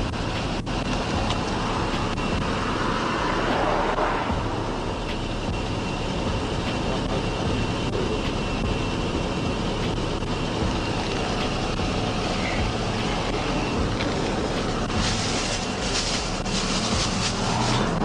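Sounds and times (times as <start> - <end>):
faint high whine: 0.0 - 18.0
vehicle rumble: 0.0 - 18.0.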